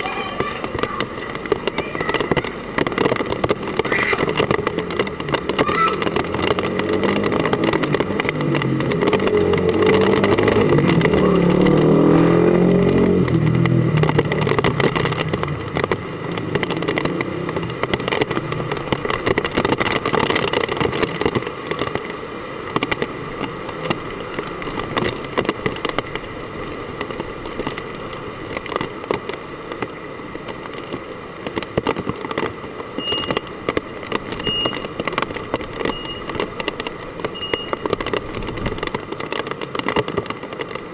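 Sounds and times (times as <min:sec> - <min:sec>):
heavy rain pelting: 0:00.0 - 0:40.9
vehicle engine rumble: 0:00.0 - 0:40.9.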